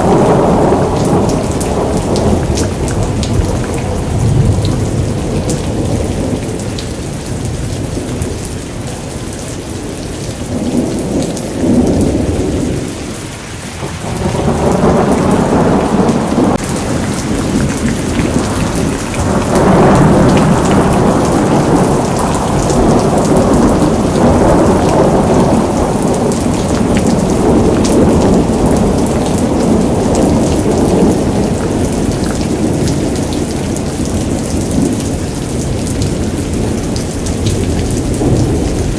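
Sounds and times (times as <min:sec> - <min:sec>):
rolling thunder: 0:00.0 - 0:09.4, 0:13.8 - 0:38.9
heavy rain falling: 0:00.0 - 0:38.9.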